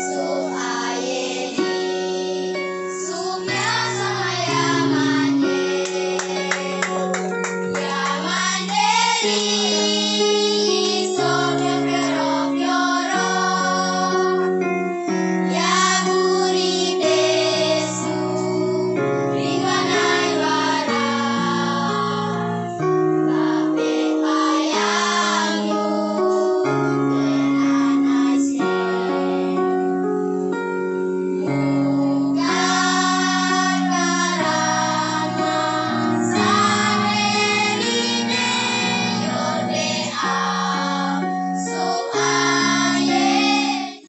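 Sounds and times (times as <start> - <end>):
children singing in chorus: 0.0 - 14.7, 15.5 - 22.7, 23.3 - 29.6, 31.4 - 44.0
keyboard accompaniment: 0.0 - 44.0.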